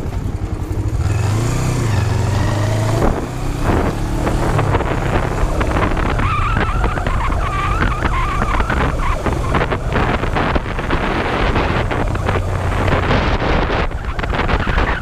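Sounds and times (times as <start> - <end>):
motorcycle engine cruising: 0.0 - 15.0
wind buffeting microphone: 0.0 - 15.0.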